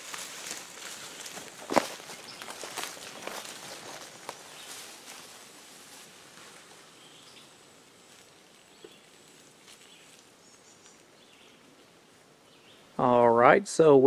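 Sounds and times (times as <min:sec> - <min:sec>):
bicycle rustling through leaves: 0:00.0 - 0:11.5
quiet hiss: 0:00.0 - 0:14.0.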